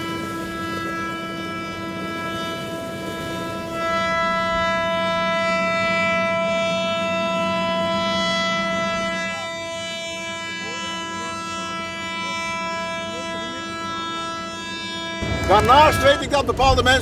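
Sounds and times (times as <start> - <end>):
deeper ship horn: 0.0 - 17.0
ship horns blasting: 0.0 - 17.0.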